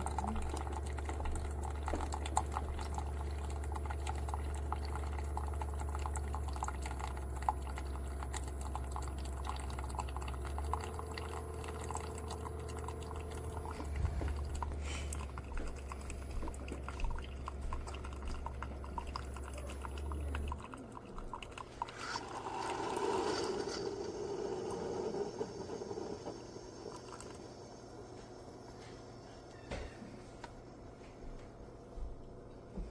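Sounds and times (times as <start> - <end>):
liquid pouring and dripping: 0.0 - 29.3
coffee maker humming: 0.0 - 32.9.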